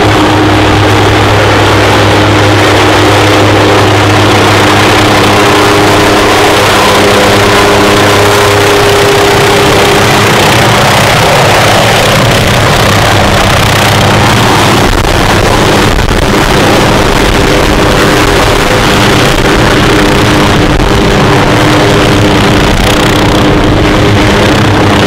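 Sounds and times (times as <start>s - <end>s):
deep rumble: 0.0s - 25.0s
helicopter turbine and rotor noise: 0.0s - 25.0s.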